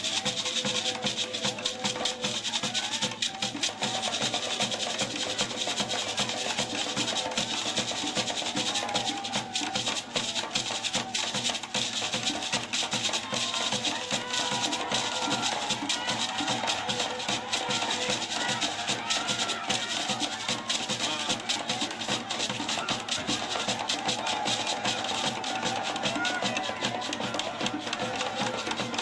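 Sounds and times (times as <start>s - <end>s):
clicking percussion: 0.0s - 29.0s
fast drum beat: 0.0s - 29.0s
rattling shakers: 0.0s - 29.0s
voices singing: 0.0s - 29.0s.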